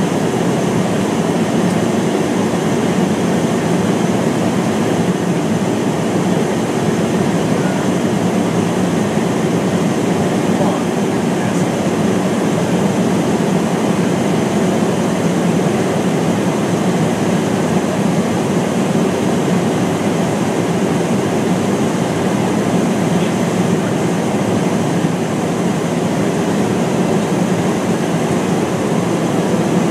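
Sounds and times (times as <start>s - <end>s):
airflow and engine drone: 0.0s - 29.9s.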